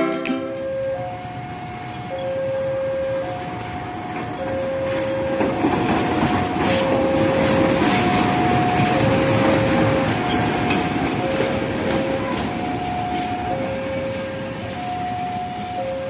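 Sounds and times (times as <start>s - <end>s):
two-tone crossing alarm: 0.0s - 16.0s
train wheels rolling on rails: 0.1s - 16.0s.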